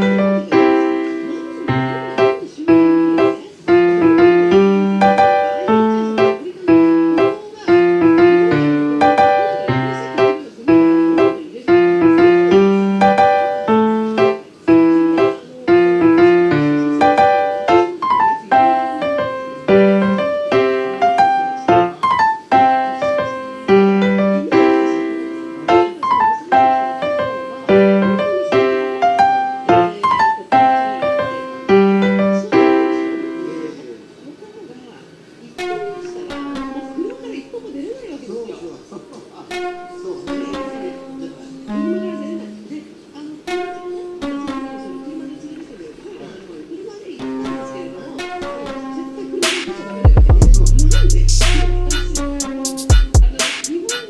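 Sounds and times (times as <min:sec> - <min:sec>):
piano music: 0:00.0 - 0:34.0, 0:35.6 - 0:37.6, 0:39.5 - 0:45.8, 0:47.2 - 0:53.9.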